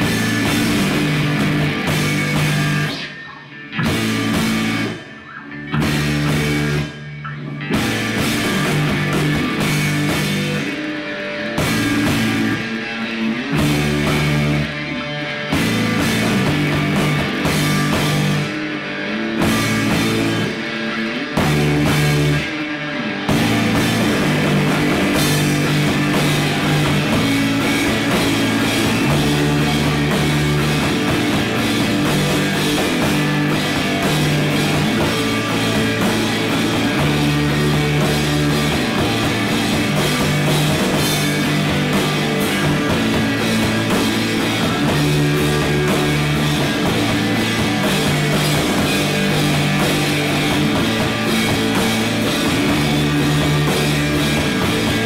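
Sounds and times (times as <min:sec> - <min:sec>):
rock band playing loudly: 0:00.0 - 0:55.0.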